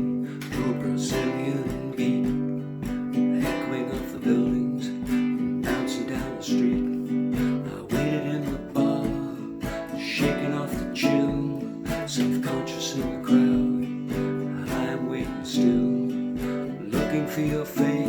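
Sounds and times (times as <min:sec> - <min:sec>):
acoustic guitar strumming: 0:00.0 - 0:18.0
low beat: 0:00.0 - 0:18.0.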